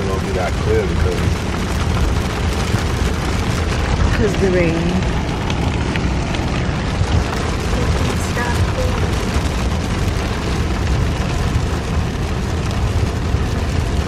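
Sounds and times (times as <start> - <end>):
car driving in heavy rain: 0.0 - 14.0.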